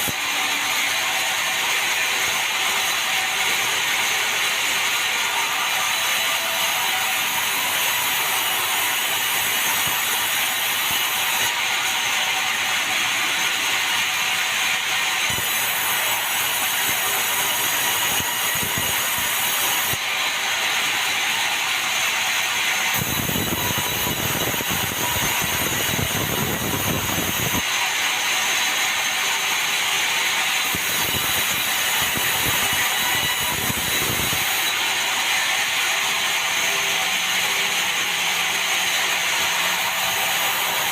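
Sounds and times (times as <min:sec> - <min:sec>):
sawmill saw cutting timber: 0:00.0 - 0:40.9.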